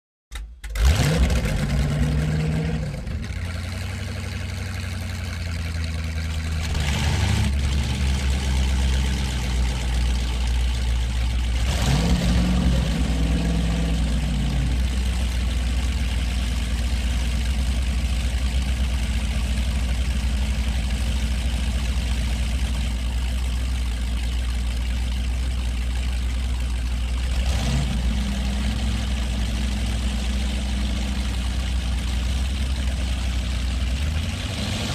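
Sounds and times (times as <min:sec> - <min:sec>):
airboat engine and propeller rumbling: 0:00.8 - 0:34.9.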